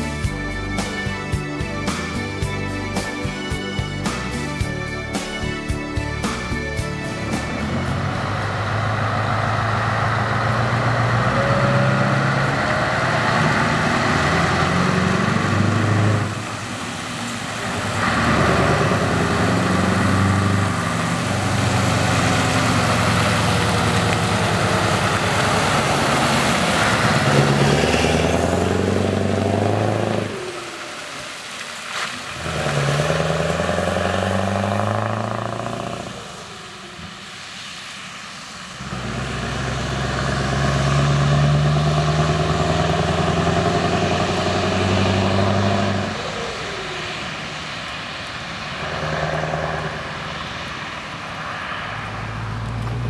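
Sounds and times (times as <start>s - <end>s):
diesel truck engine accelerating: 0.0s - 53.0s.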